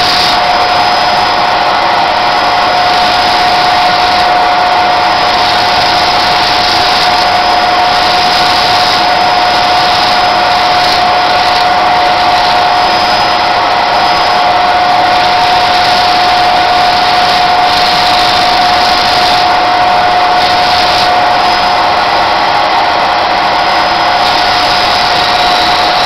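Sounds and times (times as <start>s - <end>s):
loud hiss of grinding: 0.0s - 26.0s
sanding disc motor whining: 0.0s - 26.0s.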